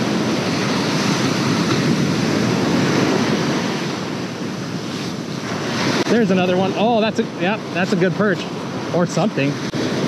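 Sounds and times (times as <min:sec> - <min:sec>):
ocean surf washing ashore: 0:00.0 - 0:10.0
wind on microphone: 0:00.0 - 0:10.0.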